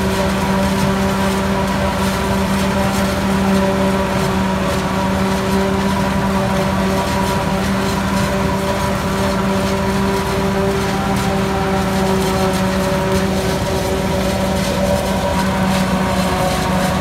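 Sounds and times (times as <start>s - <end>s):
forage harvester machine hum: 0.0s - 17.0s
tractor engine: 0.0s - 17.0s.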